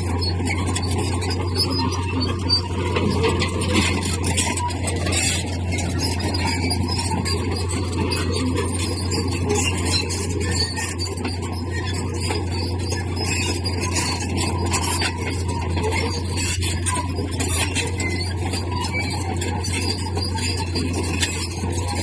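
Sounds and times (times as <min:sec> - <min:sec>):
bulldozer engine drone: 0:00.0 - 0:22.0
metallic squealing and clinking: 0:00.0 - 0:22.0
tracks grinding through stone: 0:00.0 - 0:22.0.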